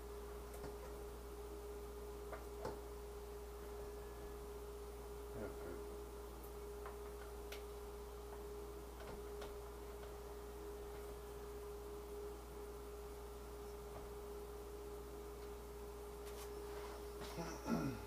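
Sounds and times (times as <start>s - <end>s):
faint electrical whine: 0.0s - 18.0s
low hum: 0.0s - 18.0s.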